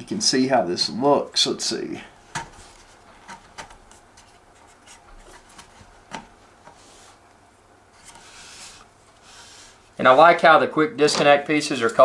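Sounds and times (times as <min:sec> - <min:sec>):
quiet handling and rubbing: 0:00.8 - 0:12.0.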